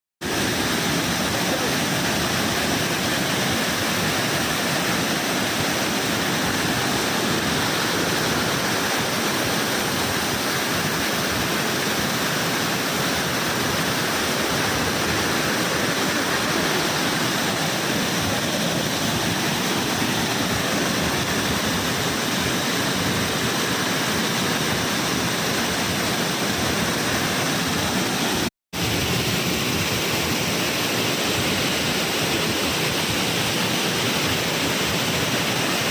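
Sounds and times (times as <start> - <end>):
waterfall roaring: 0.2 - 35.9.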